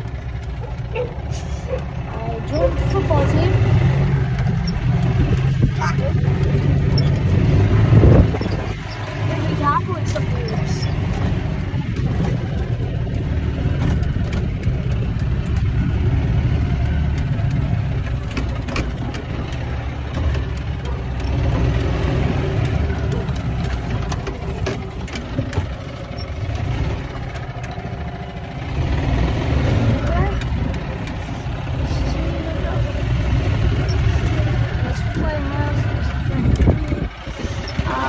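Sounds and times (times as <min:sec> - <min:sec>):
golf cart rumbling: 0:00.0 - 0:38.0.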